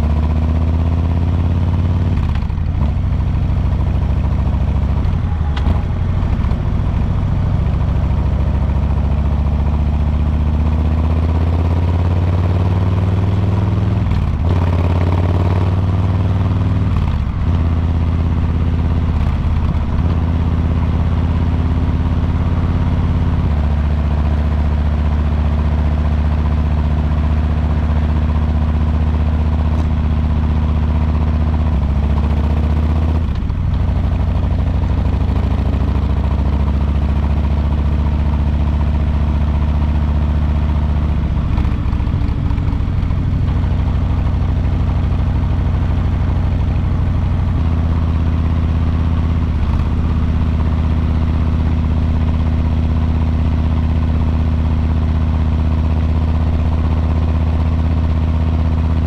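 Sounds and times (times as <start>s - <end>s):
motorcycle engine at road speed: 0.0s - 59.0s.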